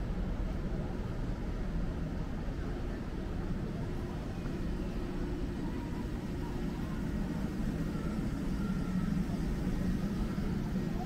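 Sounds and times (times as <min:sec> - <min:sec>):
faint voices of passers-by: 0:00.0 - 0:11.0
low city rumble: 0:00.0 - 0:11.0.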